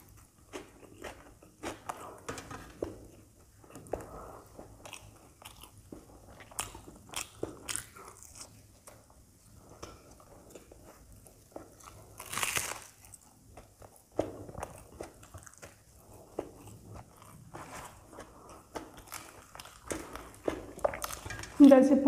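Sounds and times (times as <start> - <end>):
crunchy chewing: 0.0 - 21.6.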